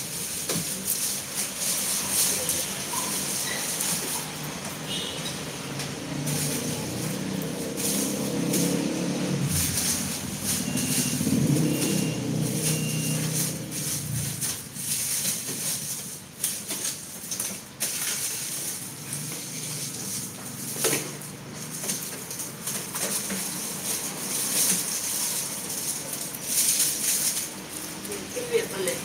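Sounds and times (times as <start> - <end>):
garlic skins rustling: 0.0 - 29.0.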